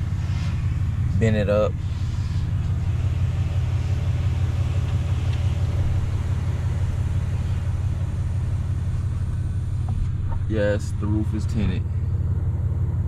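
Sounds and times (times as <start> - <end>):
truck engine and exhaust rumble: 0.0 - 13.0.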